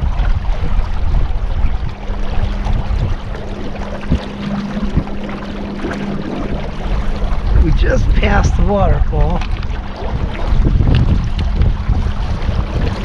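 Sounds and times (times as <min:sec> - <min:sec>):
boat motor droning: 0:00.0 - 0:13.0
rush of wind and water: 0:00.0 - 0:13.0.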